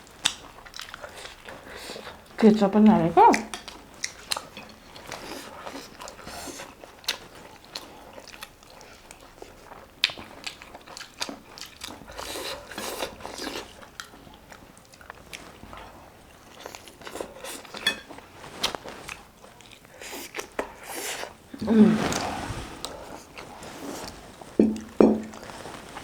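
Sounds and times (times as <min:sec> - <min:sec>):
person chewing food: 0:00.0 - 0:02.4, 0:03.3 - 0:26.0.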